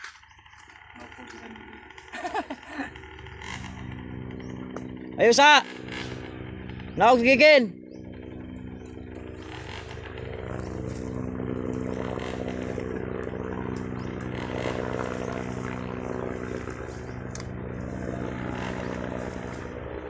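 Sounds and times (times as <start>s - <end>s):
dirt bike engines running: 0.0s - 20.0s.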